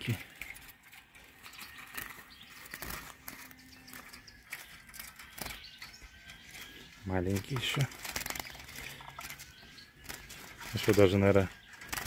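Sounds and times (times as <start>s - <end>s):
faint outdoor background: 0.0s - 12.0s
rustling: 0.0s - 12.0s.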